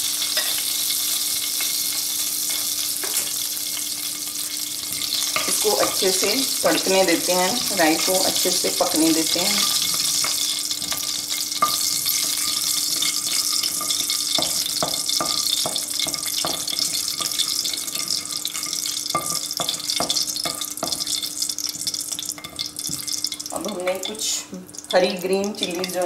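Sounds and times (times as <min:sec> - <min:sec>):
seeds sizzling in hot oil: 0:00.0 - 0:26.0.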